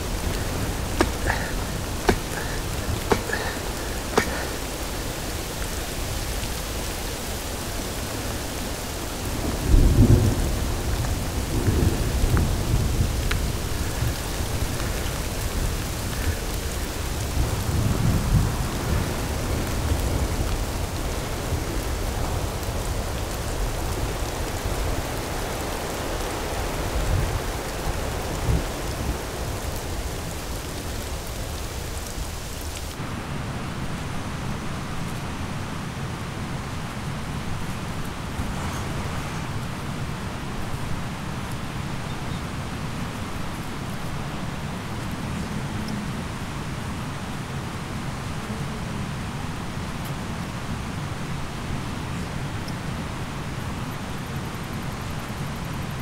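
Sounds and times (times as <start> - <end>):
outdoor ambience: 0.0 - 56.0
steady rain: 0.0 - 56.0.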